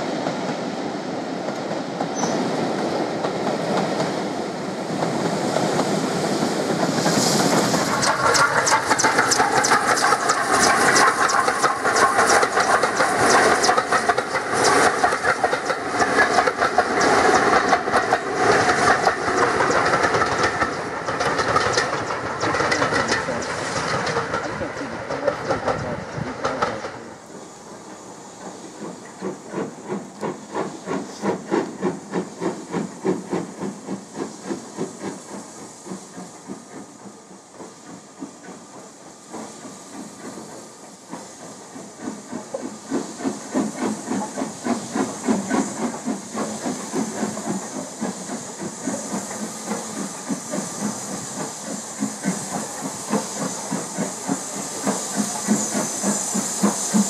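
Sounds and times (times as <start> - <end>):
steam hissing: 0.0 - 57.0
steam locomotive exhaust beats: 0.0 - 57.0
train passing: 0.0 - 57.0.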